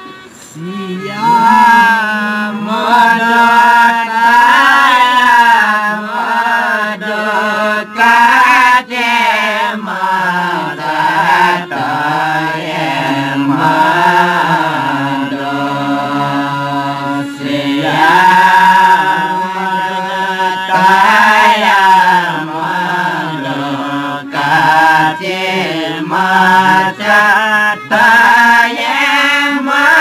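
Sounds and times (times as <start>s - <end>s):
group singing a devotional song: 0.0s - 30.0s
harmonium: 0.0s - 30.0s.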